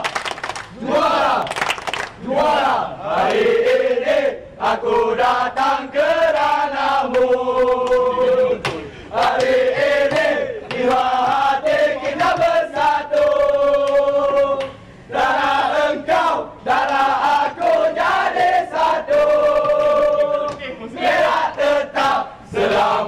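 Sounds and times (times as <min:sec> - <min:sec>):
men chanting in unison: 0:00.7 - 0:01.5, 0:02.2 - 0:23.0.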